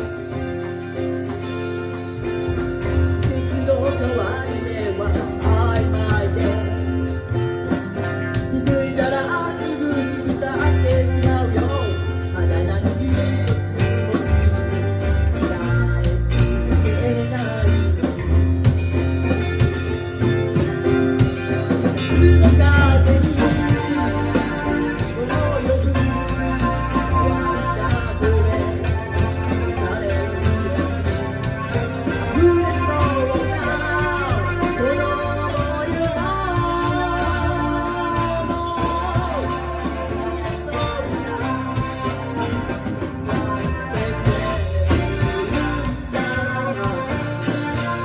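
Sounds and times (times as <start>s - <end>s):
bass line held notes: 0.0s - 48.0s
guitar: 0.0s - 48.0s.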